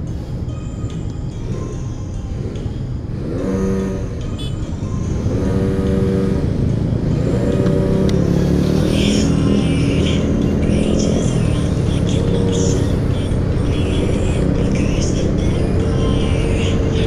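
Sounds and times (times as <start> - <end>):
music with held notes: 0.0 - 14.6
wind and road rumble: 0.0 - 17.0
scooter engine running: 1.4 - 17.0.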